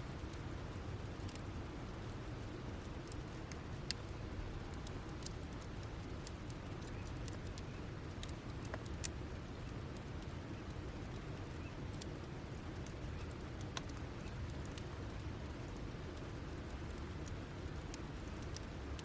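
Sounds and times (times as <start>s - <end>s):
campfire embers crackling: 0.1s - 19.0s.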